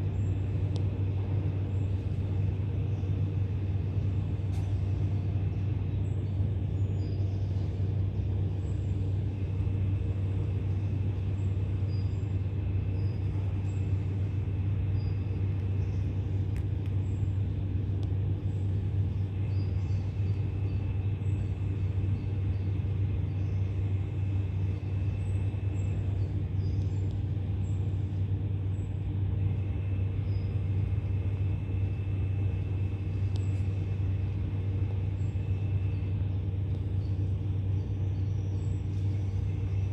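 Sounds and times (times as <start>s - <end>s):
machine hum drone: 0.0s - 39.9s.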